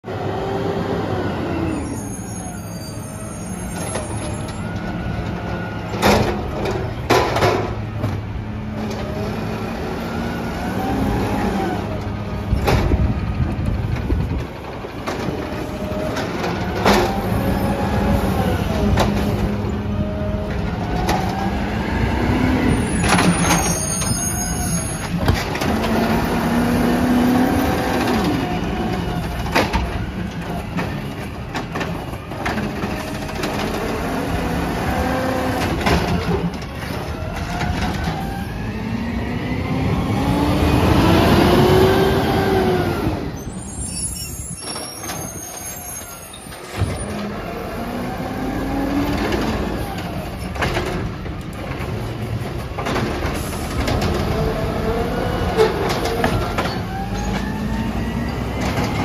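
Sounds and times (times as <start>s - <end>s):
garbage truck engine revving: 4.0s - 43.6s, 46.6s - 59.0s.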